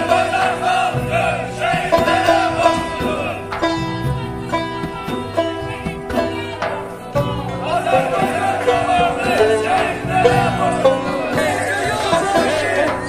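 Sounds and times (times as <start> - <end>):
ornamented melody line: 0.0 - 13.0
plucked string notes: 0.0 - 13.0.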